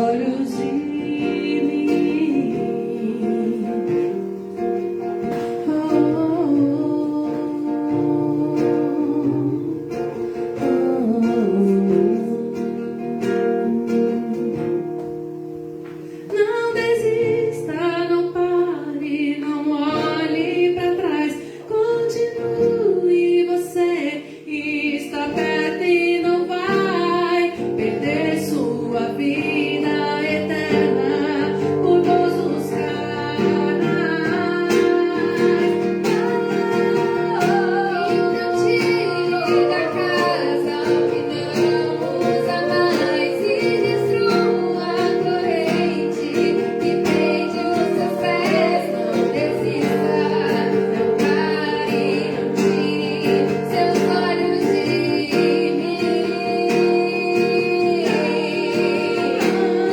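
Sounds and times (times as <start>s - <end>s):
guitar accompaniment: 0.0s - 59.9s
person singing: 0.0s - 59.9s.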